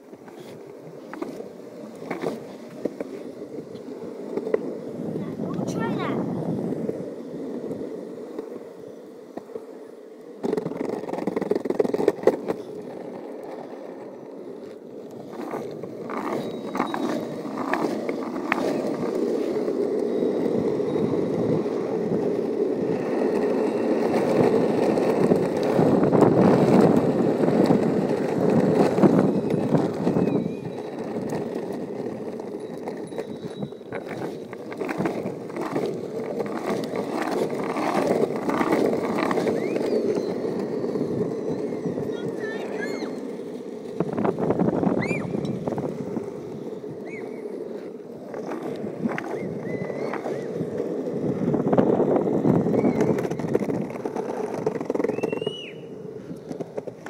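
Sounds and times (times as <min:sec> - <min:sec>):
skateboard wheels rumbling on pavement: 0:00.0 - 0:57.0.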